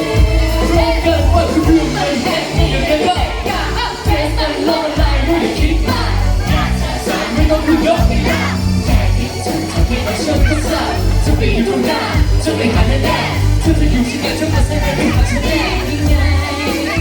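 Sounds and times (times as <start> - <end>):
heavy bass beat: 0.0 - 17.0
pop song with singer: 0.0 - 17.0.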